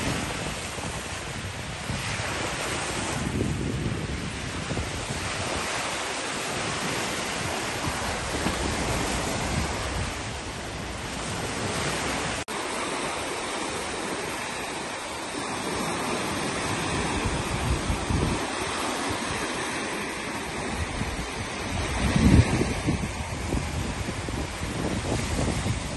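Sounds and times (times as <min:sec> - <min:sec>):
waves washing onto beach: 0:00.0 - 0:25.9
wind buffeting microphone: 0:00.0 - 0:25.9.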